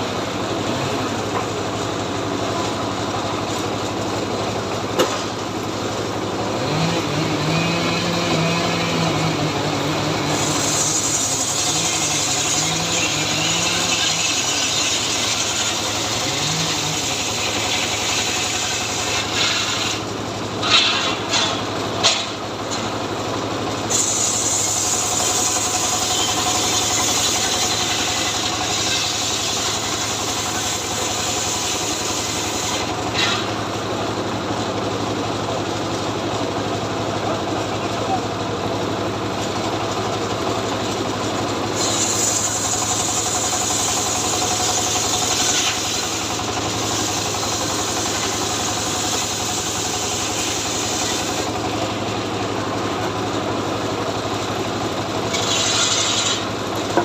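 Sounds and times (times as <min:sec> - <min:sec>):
chainsaw engine running: 0:00.0 - 0:20.7, 0:21.3 - 0:57.0.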